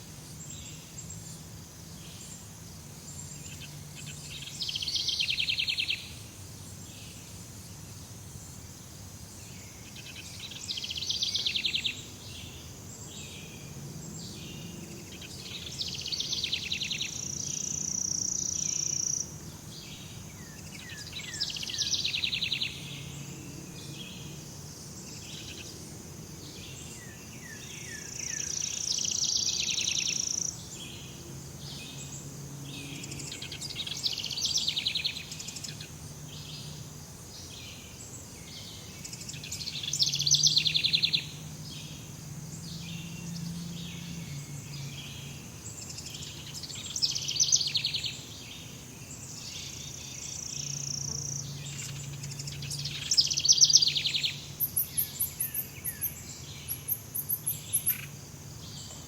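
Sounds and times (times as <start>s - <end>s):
insects hissing: 0.0s - 59.0s.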